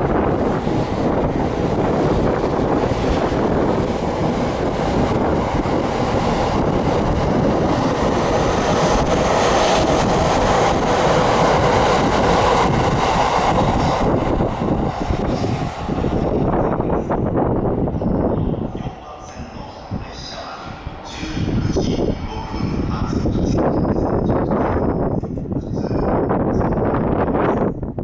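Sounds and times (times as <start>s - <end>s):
electric train rolling past: 0.0s - 28.0s
wind on microphone: 0.0s - 28.0s.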